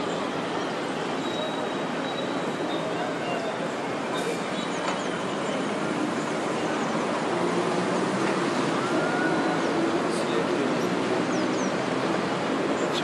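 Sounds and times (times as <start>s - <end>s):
road traffic rush: 0.0s - 13.0s.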